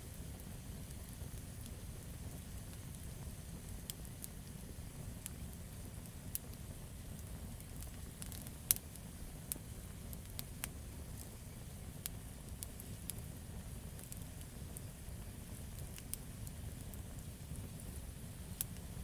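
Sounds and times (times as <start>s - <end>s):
campfire wood crackling: 0.0s - 19.0s
low rumble of fire: 0.0s - 19.0s.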